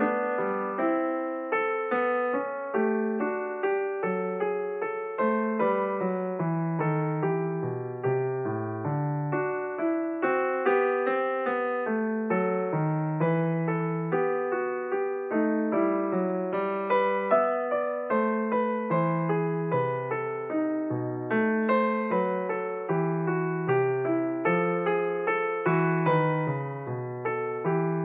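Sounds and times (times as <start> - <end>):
gentle piano melody: 0.0 - 28.0.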